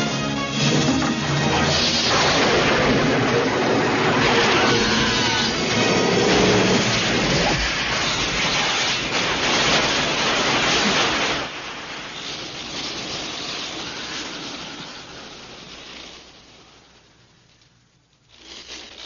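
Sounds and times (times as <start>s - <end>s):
fire trails hissing and burning: 0.6s - 18.4s.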